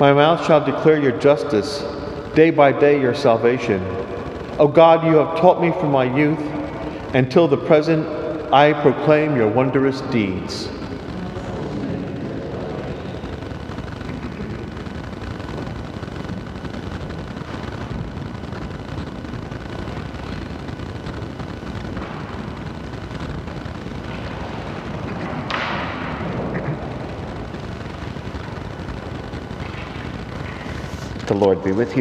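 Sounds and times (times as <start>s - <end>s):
steady rushing background noise: 0.0s - 32.0s.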